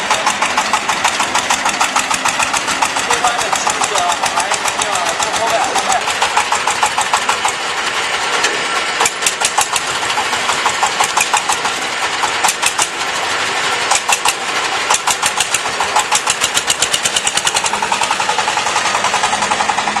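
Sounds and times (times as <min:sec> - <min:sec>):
forklift engine clattering: 0:00.0 - 0:20.0.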